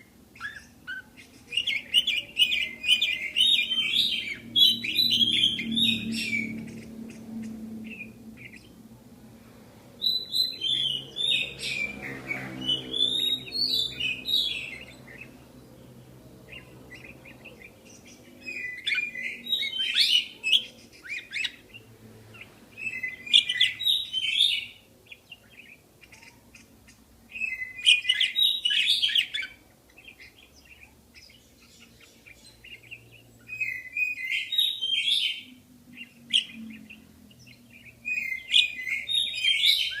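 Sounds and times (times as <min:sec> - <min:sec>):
budgerigars chirping: 0:00.0 - 0:08.8, 0:10.0 - 0:40.0.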